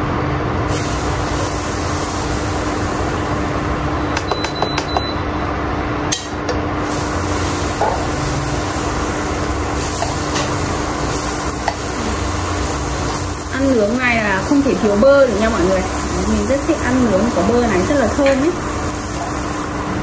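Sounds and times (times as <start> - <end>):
butter sizzling in a frying pan: 0.7 - 4.1, 6.8 - 20.0.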